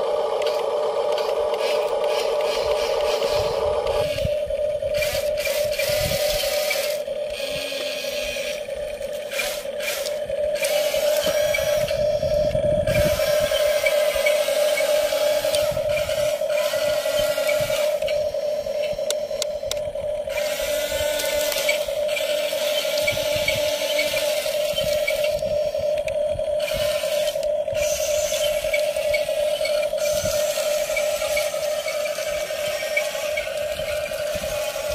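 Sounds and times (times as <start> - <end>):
electric motors whining: 0.0 - 34.9
plastic tracks scraping and clicking: 0.3 - 34.9.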